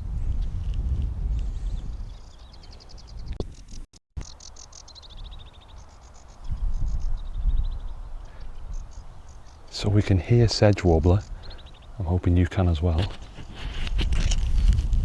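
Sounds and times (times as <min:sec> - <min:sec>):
wind rumble on microphone: 0:00.0 - 0:03.9, 0:05.0 - 0:15.0
sedge warbler singing: 0:01.3 - 0:13.6.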